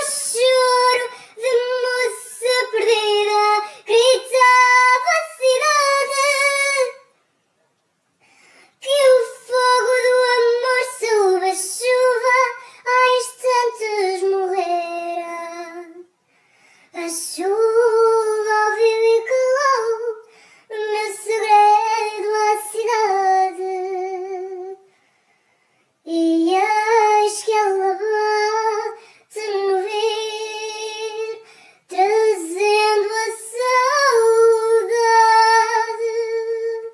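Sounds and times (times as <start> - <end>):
woman singing unaccompanied: 0.0 - 7.0, 8.8 - 16.1, 17.0 - 24.8, 26.1 - 36.9.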